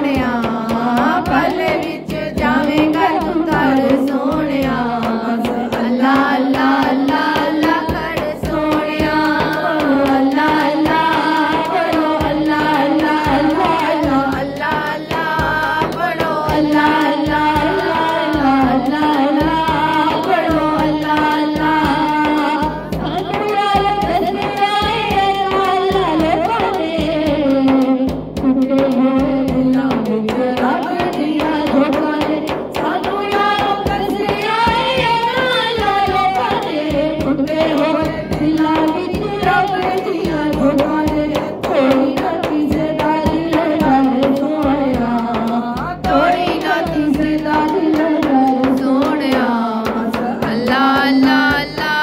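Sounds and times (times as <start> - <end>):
percussion beat: 0.0 - 52.0
person singing devotional song: 0.0 - 52.0.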